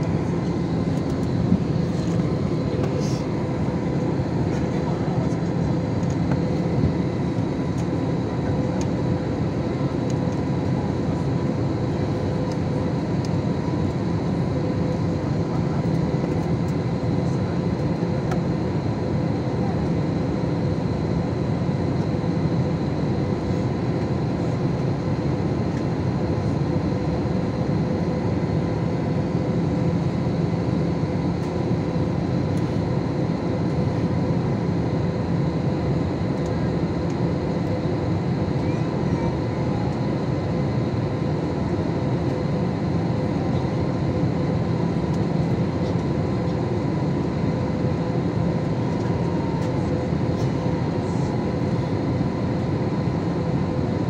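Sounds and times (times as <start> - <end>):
jet engine cabin noise: 0.0 - 54.0.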